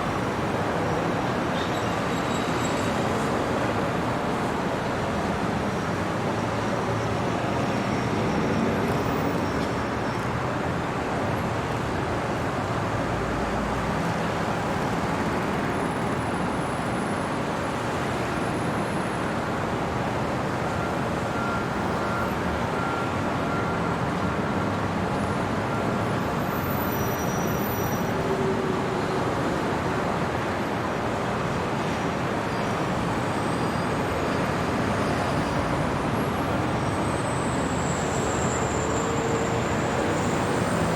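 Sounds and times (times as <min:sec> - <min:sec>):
city traffic noise: 0:00.0 - 0:40.9.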